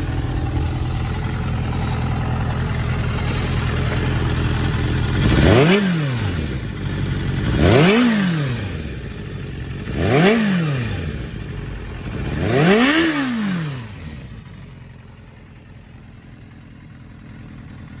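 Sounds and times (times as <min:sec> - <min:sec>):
motorcycle engine idling: 0:00.0 - 0:18.0
motorcycle engine revving: 0:00.0 - 0:18.0.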